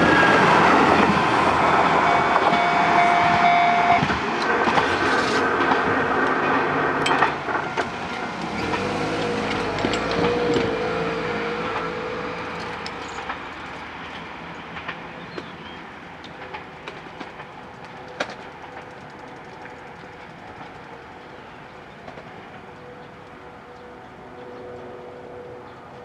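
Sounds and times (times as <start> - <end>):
diesel railcar engine and wheels: 0.0 - 26.0.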